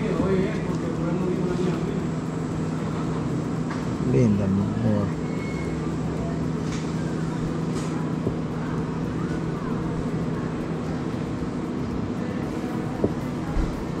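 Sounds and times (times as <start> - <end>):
faint voices: 0.0 - 14.0
motor hum: 0.0 - 14.0.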